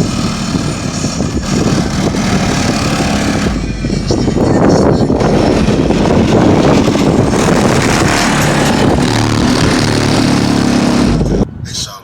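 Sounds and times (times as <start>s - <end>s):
loud bass-heavy music: 0.0s - 11.5s.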